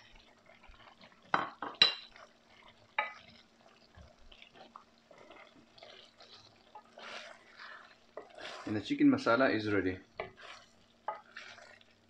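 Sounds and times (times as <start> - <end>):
faint sizzle of gravy: 0.0 - 12.0
spoon stirring and scraping: 0.0 - 12.0.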